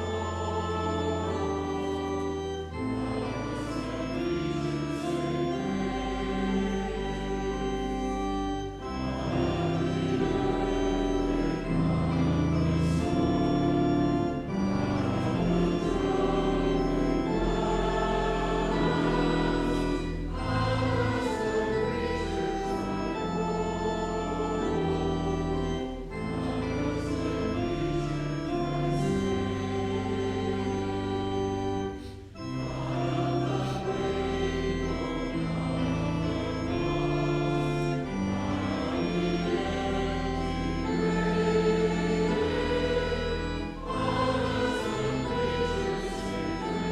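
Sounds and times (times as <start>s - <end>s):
organ playing sustained chords: 0.0s - 46.9s.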